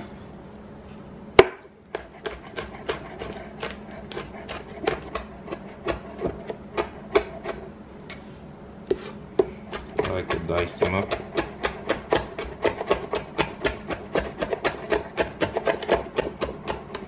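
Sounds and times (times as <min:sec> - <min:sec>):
knife chopping on cutting board: 0:01.4 - 0:07.7, 0:08.9 - 0:17.0.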